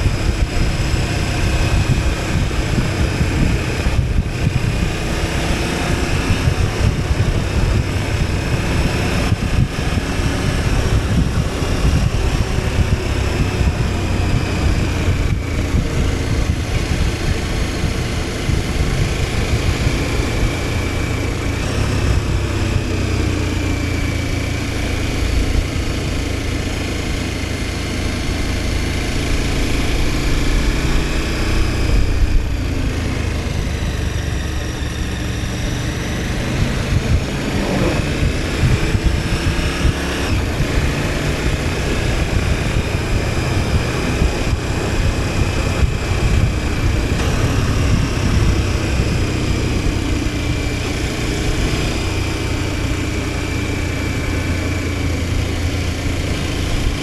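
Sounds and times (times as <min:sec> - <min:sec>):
low wind rumble: 0:00.0 - 0:57.0
motorcycle engine running: 0:00.0 - 0:57.0.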